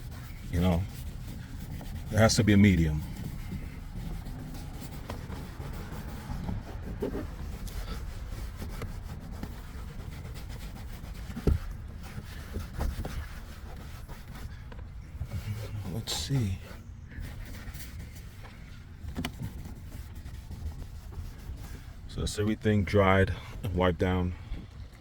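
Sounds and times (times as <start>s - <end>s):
cloth rubbing on plastic: 0.0s - 22.5s.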